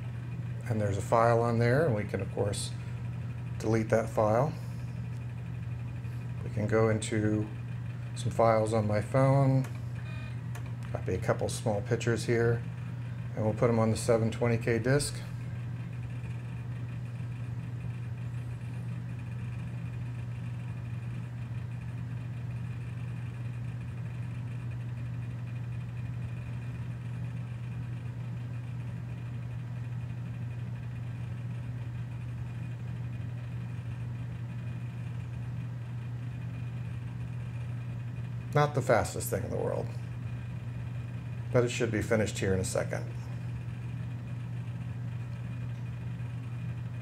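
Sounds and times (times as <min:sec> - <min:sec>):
disk drive humming: 0:00.0 - 0:47.0.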